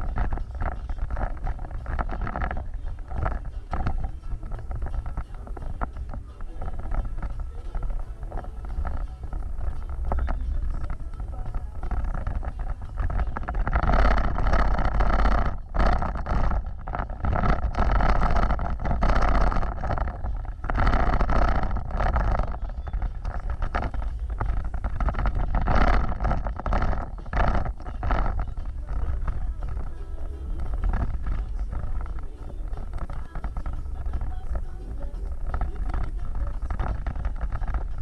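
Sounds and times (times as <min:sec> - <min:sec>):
off-road vehicle engine rumble: 0:00.0 - 0:38.0.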